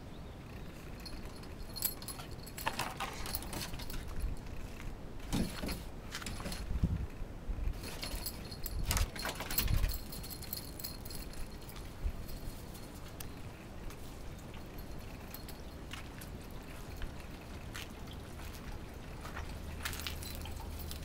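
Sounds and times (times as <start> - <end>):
metal chain jangling: 0.6 - 6.8, 7.7 - 21.0.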